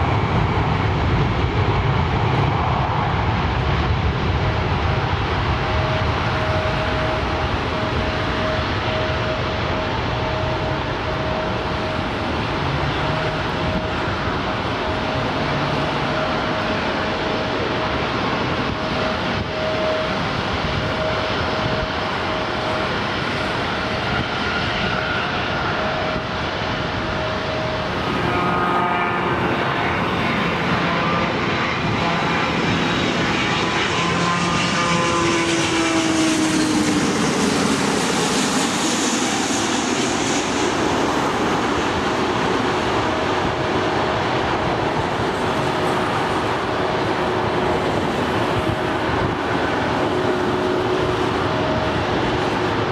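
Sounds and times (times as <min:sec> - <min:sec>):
distant jet engine rumble: 0:00.0 - 0:52.9
jet airliner passing low: 0:00.0 - 0:52.9.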